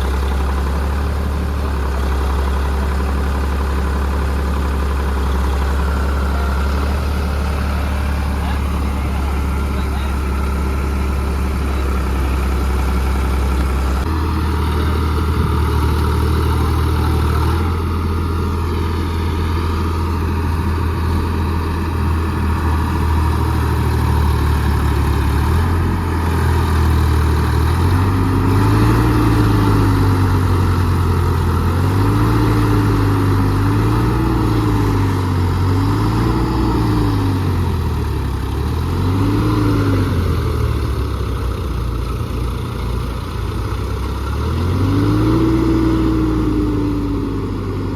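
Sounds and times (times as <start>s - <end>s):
tractor engine revving: 0.0s - 47.9s.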